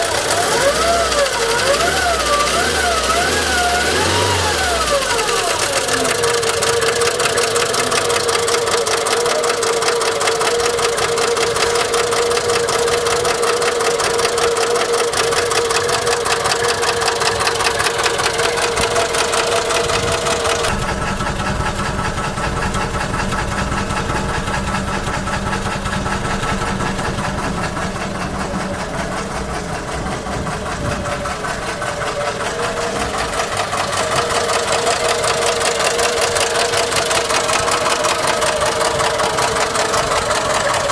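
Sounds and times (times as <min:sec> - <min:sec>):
car engine ticking knock: 0:00.0 - 0:40.9.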